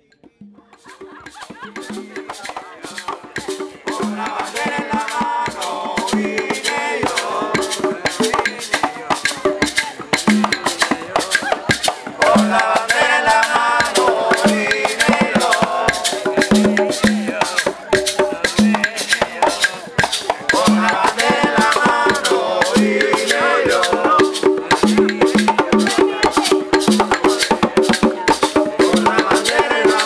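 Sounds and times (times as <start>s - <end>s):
conga drums: 0.0s - 30.0s
maraca shaking: 0.0s - 30.0s
people singing: 0.2s - 30.0s.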